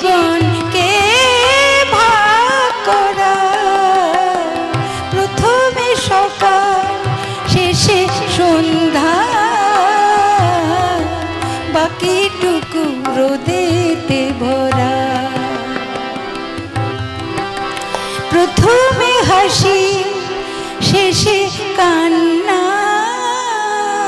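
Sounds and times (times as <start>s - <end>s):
woman singing: 0.0s - 15.9s, 18.2s - 24.0s
harmonium chords: 0.0s - 24.0s
tabla: 0.0s - 24.0s.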